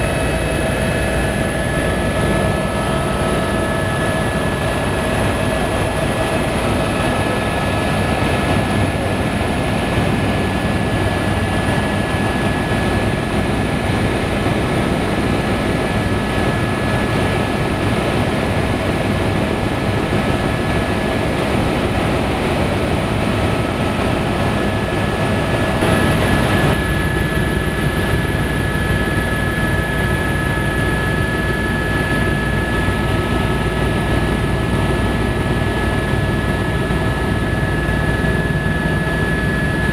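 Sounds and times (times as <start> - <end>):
helicopter engine and rotor noise: 0.0 - 39.9
steady high whine: 0.0 - 39.9.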